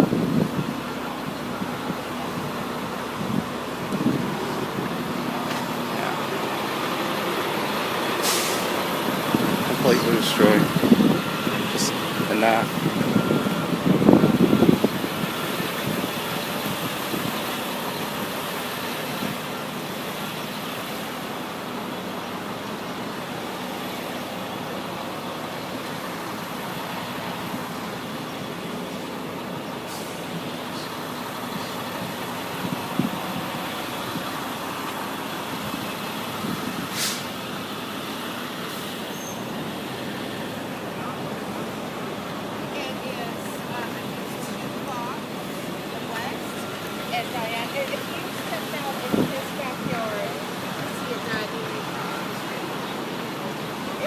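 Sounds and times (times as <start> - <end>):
motor vehicle running: 0.0 - 54.0.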